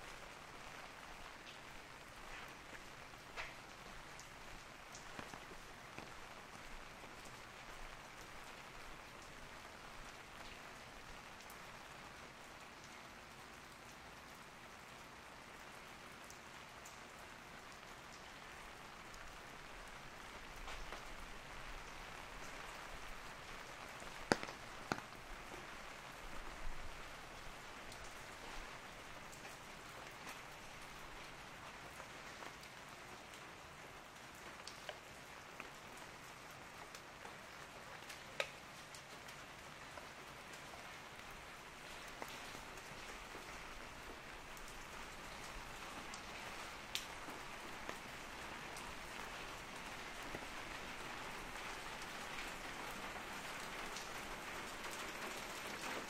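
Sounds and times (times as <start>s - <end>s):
rain on an umbrella: 0.0s - 56.0s.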